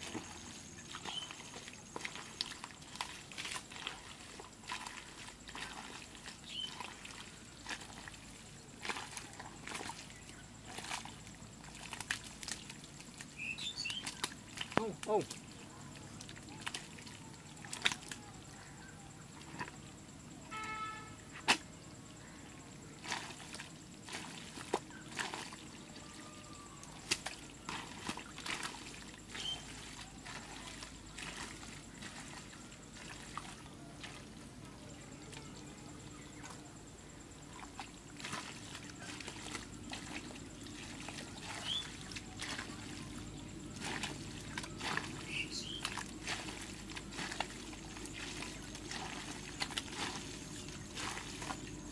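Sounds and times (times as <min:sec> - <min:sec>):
mud squelching and water splashing: 0:00.0 - 0:51.9.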